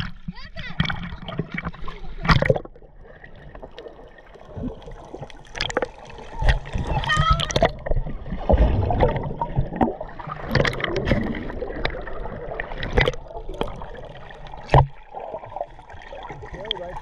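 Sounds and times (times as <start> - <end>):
water splashing and bubbling: 0.0 - 17.0.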